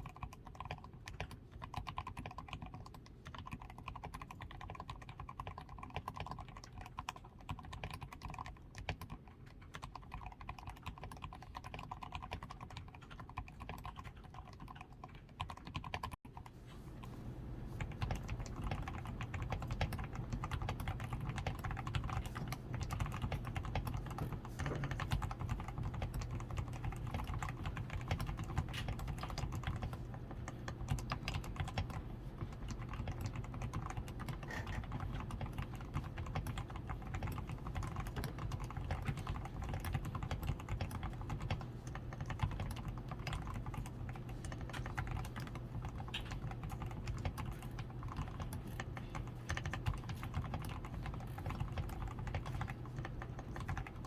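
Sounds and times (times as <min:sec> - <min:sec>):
mechanical keyboard typing: 0:00.0 - 0:16.2, 0:17.8 - 0:54.0.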